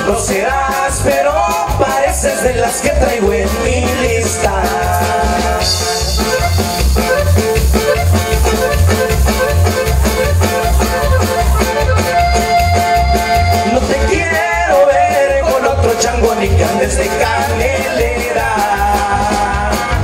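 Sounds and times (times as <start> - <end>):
accordion melody: 0.0 - 20.0
bass beat: 0.0 - 20.0
guitar: 0.0 - 20.0.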